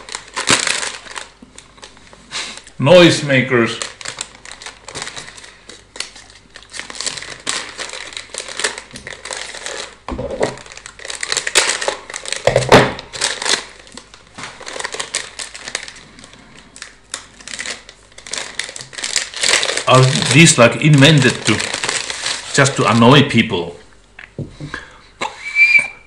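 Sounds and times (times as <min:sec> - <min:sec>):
plastic wrapping crinkling: 0:00.0 - 0:23.6.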